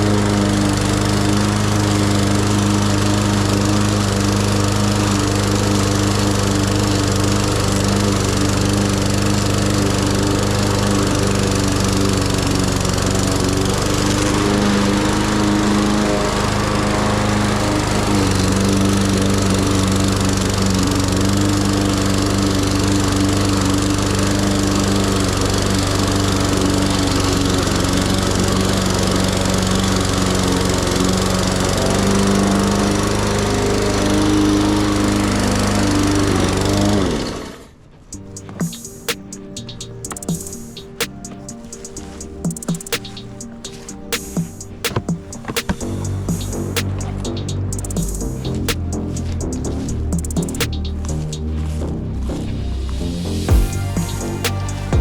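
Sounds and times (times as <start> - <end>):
lawn mower engine cutting grass: 0.0 - 37.6, 38.2 - 55.0.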